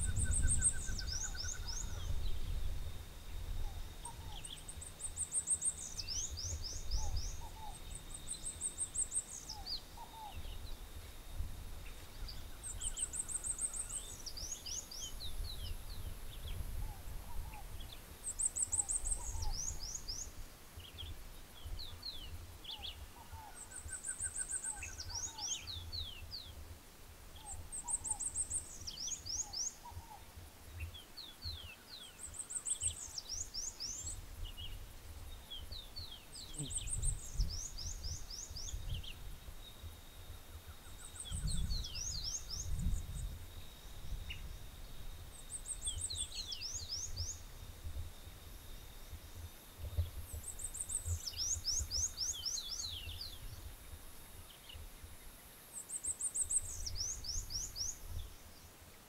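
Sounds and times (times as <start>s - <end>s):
bird song buzzy trill: 0.0s - 59.0s
other birds calling softly: 0.0s - 59.0s
thin steady high tone: 0.0s - 59.0s.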